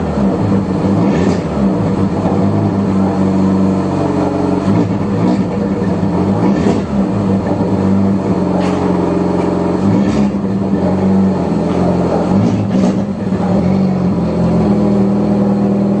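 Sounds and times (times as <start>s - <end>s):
car exhaust rumbling loudly: 0.0s - 16.0s.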